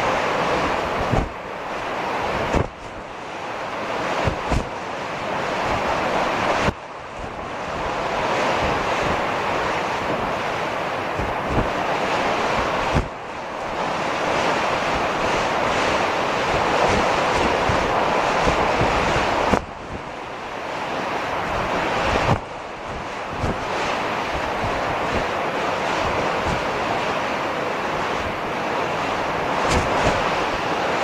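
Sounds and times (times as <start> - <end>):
wind thumps on microphone: 0.0 - 3.2, 3.8 - 31.0
heavy surf: 0.0 - 31.0
storm wind: 0.0 - 31.0.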